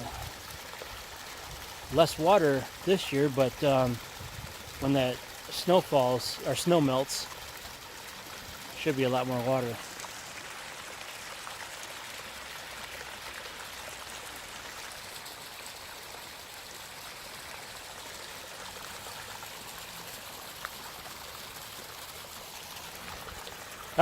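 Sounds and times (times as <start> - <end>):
creek running over rocks: 0.0 - 24.0.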